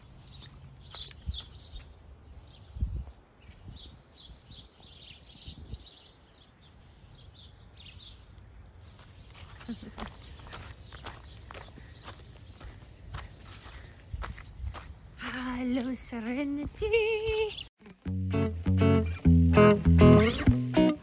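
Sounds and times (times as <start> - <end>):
small birds chirping: 0.0 - 15.2, 16.0 - 17.8, 19.9 - 21.0.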